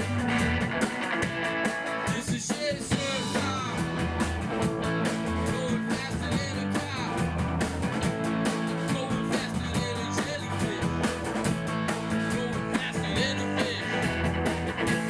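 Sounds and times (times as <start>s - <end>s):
bass and drums: 0.0s - 15.0s
electric guitar: 0.0s - 15.0s.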